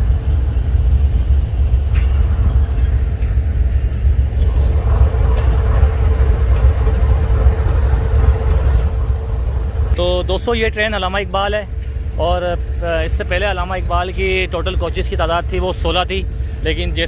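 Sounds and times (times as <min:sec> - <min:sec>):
diesel locomotive idling: 0:00.0 - 0:17.0
steady whine: 0:00.0 - 0:17.0.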